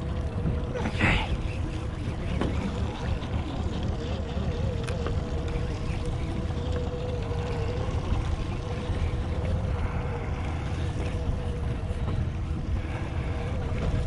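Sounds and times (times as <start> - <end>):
electric trolling motor whining: 0.0 - 14.0
wind rumble on microphone: 0.0 - 14.0.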